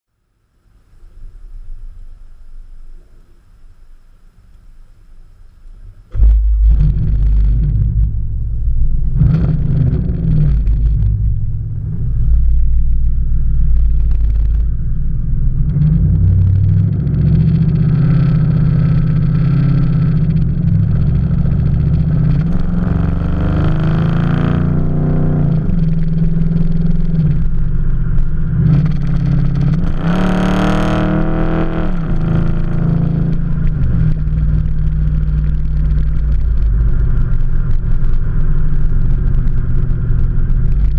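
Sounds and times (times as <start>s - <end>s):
car engine revving: 6.0s - 40.9s.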